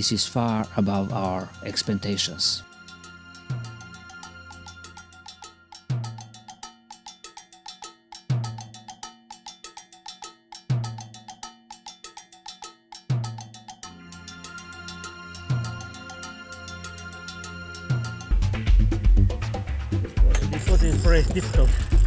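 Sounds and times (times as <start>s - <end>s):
cowbell-like percussion music: 0.0s - 19.6s, 20.3s - 22.0s.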